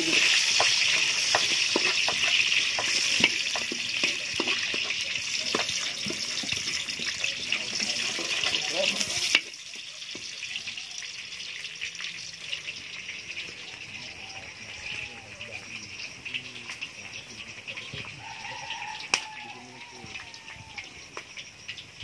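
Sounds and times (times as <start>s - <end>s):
garlic and onion sizzling in oil: 0.0s - 22.0s.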